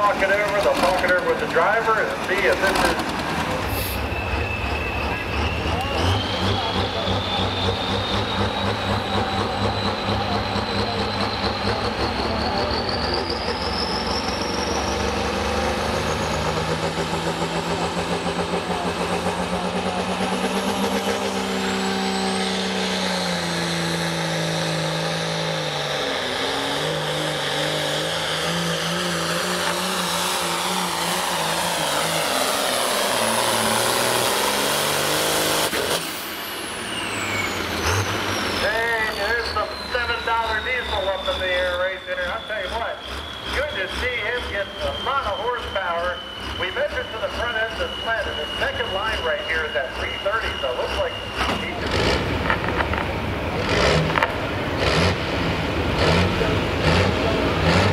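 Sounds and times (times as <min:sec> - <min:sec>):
diesel engine running under load: 0:00.0 - 0:57.9
turbocharger whine: 0:00.0 - 0:57.9.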